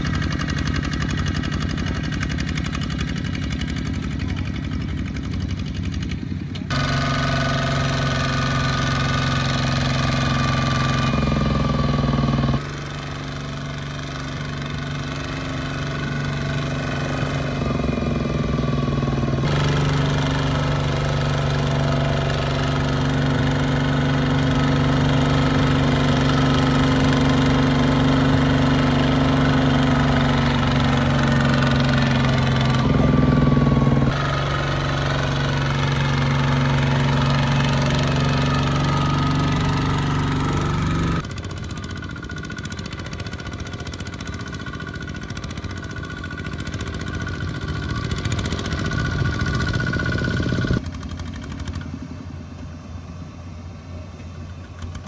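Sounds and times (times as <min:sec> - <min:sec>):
diesel tractor engine running: 0:00.0 - 0:55.0
quieter tractor engine: 0:00.0 - 0:55.0.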